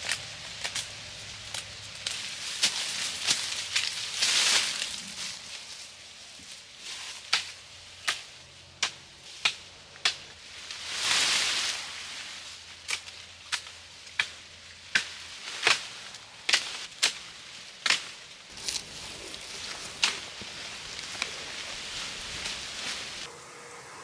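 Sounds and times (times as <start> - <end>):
rustle of leaves and branches: 0.0 - 24.0.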